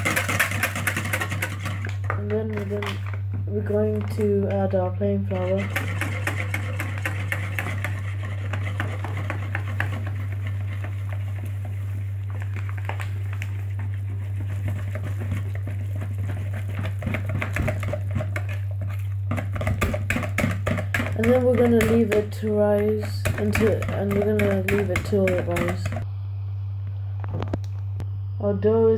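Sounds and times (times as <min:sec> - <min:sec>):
whisk clicking and scraping bowl: 0:00.0 - 0:04.6, 0:05.2 - 0:26.0
steady low hum: 0:00.0 - 0:28.9.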